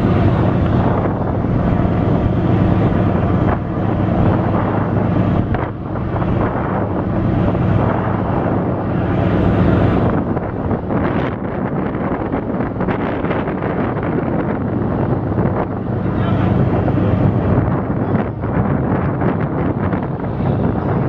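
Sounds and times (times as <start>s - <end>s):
ship engines humming: 0.0s - 21.0s
wind buffeting microphone: 0.0s - 21.0s.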